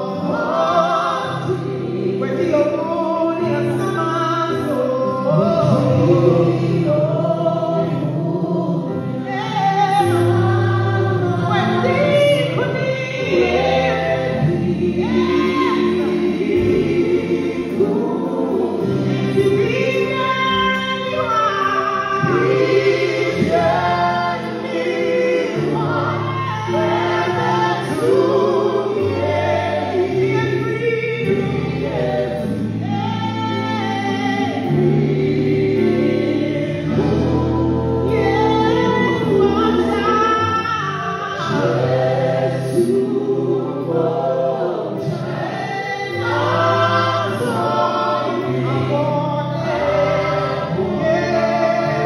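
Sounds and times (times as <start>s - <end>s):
band with keyboard chords: 0.0s - 52.0s
group singing into microphones: 0.0s - 52.0s.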